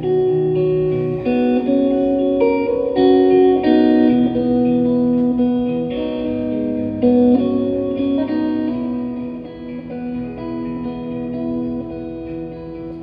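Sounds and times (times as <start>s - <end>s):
guitar playing ringing chords: 0.0s - 13.0s.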